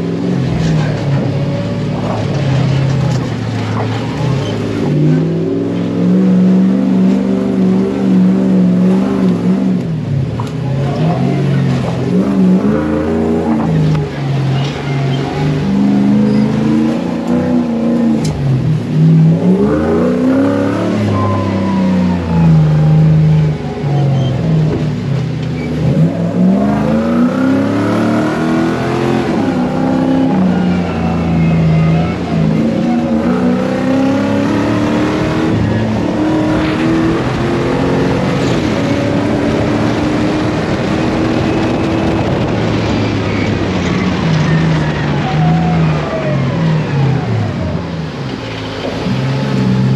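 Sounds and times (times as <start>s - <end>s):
off-road buggy engine revving: 0.0s - 49.9s.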